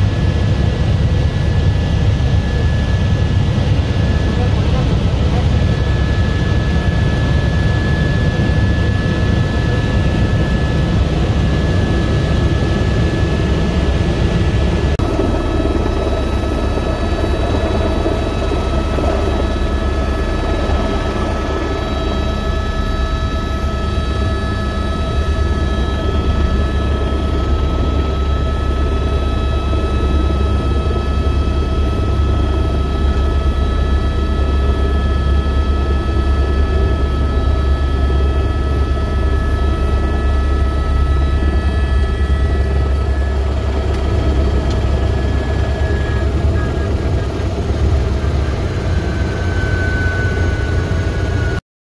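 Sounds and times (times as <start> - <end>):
helicopter rotor drone: 0.0 - 51.6
turbine engine whine: 0.0 - 51.6.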